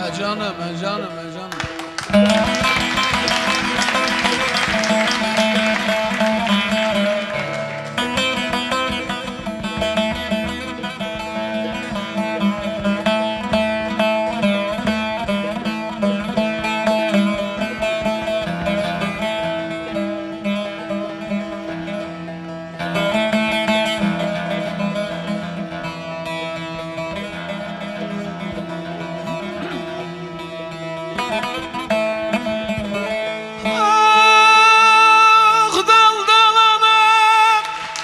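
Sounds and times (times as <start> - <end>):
long-necked lutes picking melody: 0.0 - 38.0
violin: 0.0 - 38.0.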